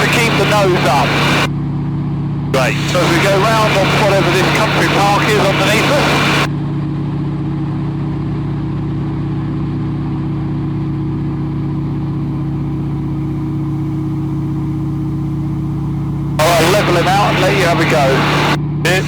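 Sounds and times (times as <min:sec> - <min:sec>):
radial aircraft engine droning: 0:00.0 - 0:19.0.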